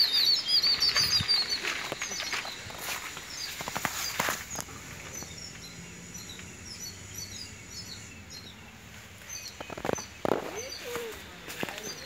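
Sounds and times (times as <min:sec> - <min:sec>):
low outdoor hum: 0:00.0 - 0:12.0
small birds chirping: 0:00.0 - 0:12.0.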